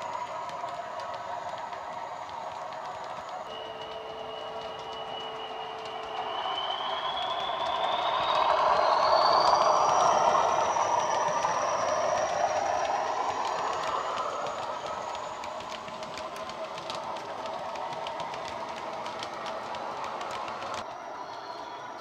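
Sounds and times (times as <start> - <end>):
high train whistle: 0.0 - 22.0
wheels clicking over track joints: 0.0 - 22.0.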